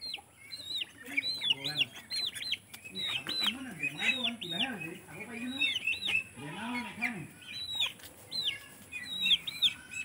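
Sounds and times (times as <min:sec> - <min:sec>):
ducklings peeping: 0:00.0 - 0:10.0.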